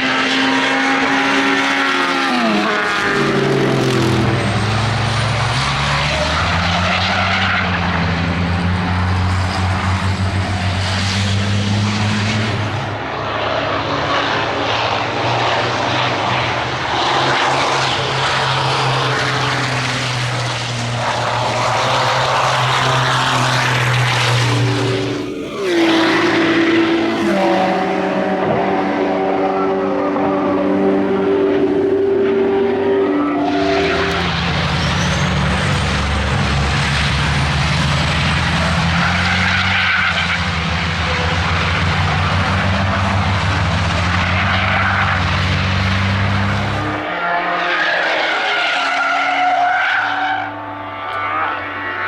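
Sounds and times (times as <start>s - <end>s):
racing car engine passing: 0.0s - 52.0s.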